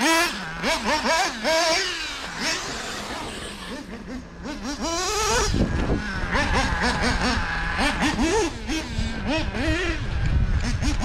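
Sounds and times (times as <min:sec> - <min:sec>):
nitro engine revving: 0:00.0 - 0:11.0.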